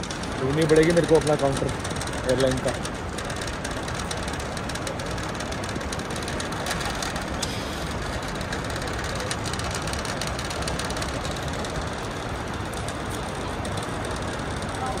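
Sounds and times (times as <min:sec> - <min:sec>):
airport terminal din: 0:00.0 - 0:15.0.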